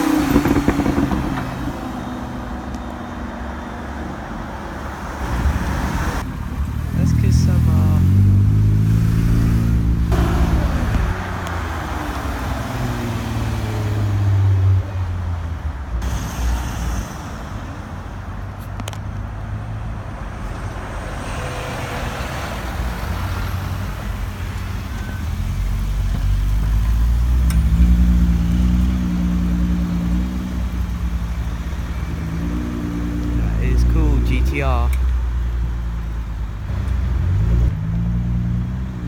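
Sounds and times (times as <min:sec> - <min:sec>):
tyre and traffic noise: 0:00.0 - 0:39.0.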